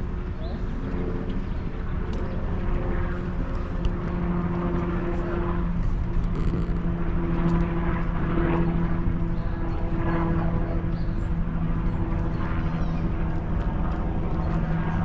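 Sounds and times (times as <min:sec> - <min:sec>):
engine drone: 0:00.0 - 0:15.0.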